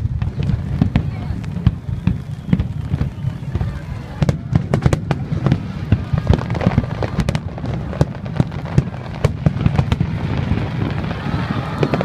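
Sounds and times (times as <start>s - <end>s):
fireworks popping and crackling: 0.0s - 12.0s.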